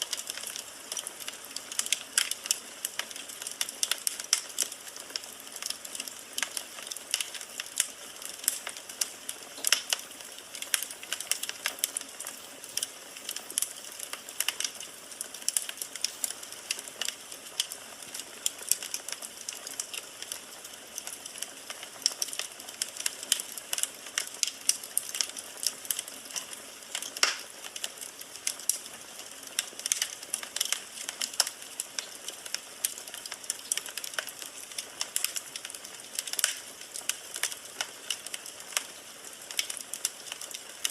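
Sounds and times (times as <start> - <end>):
firewood crackling and popping: 0.0 - 40.9.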